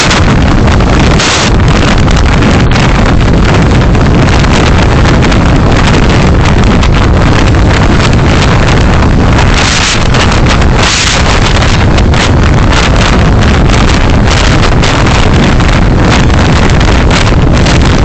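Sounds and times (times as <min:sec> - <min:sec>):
vehicle driving on road: 0:00.0 - 0:18.0
wind buffeting microphone: 0:00.0 - 0:18.0.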